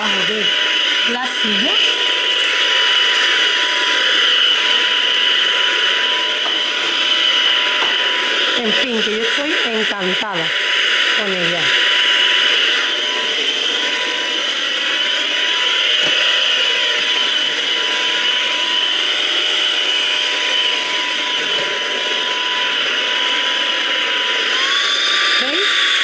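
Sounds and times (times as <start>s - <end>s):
stick vacuum running: 0.0s - 26.0s.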